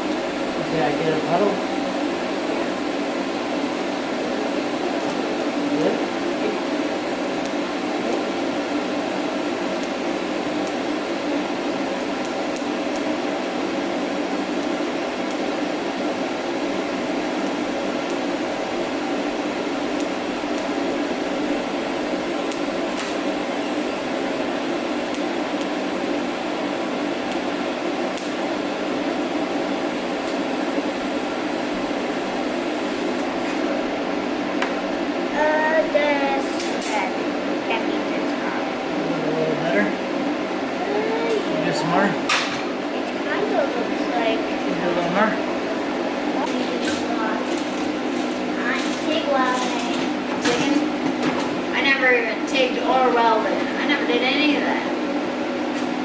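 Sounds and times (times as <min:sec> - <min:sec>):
welding arc buzzing hiss: 0:00.0 - 0:56.0.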